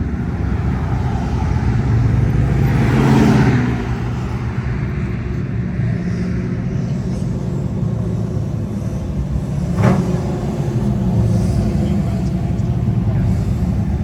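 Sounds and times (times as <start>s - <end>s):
car engines rumbling past: 0.0s - 14.0s.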